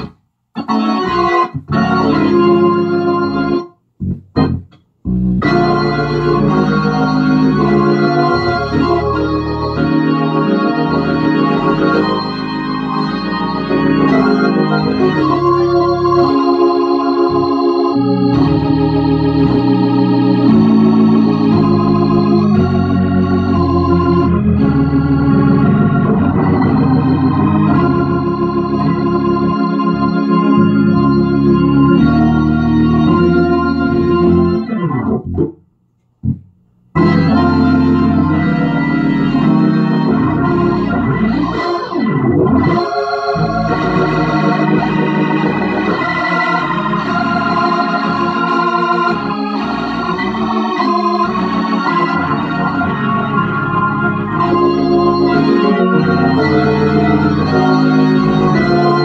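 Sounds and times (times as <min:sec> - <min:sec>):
organ playing sustained chords: 0:00.0 - 0:35.5, 0:36.9 - 0:59.0.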